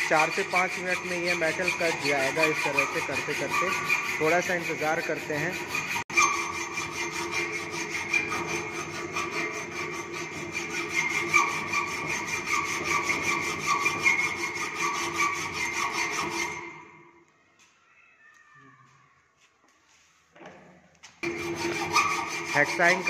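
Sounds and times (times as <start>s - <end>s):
hacksaw cutting metal: 0.0s - 16.8s, 21.2s - 23.0s.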